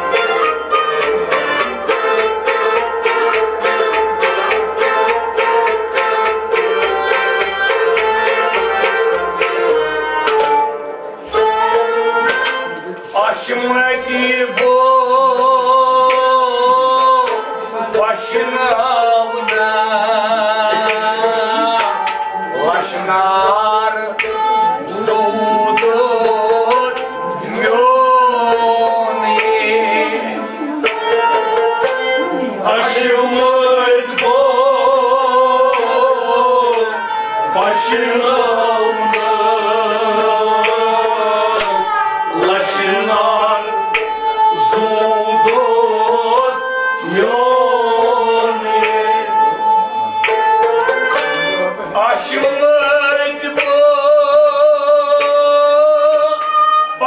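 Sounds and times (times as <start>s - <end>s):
bowed string instrument: 0.0s - 57.0s
harmonium: 0.0s - 57.0s
long-necked lute: 0.0s - 57.0s.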